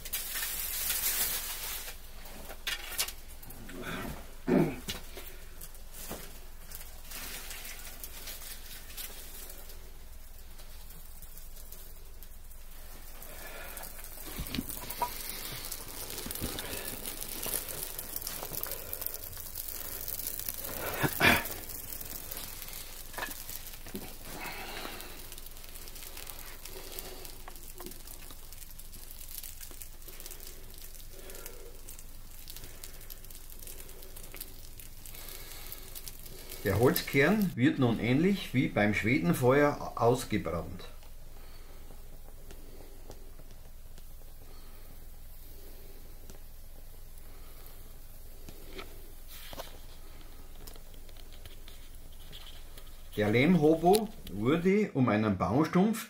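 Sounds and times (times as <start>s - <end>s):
fire crackling: 0.0s - 54.8s
fire snapping: 0.0s - 54.8s.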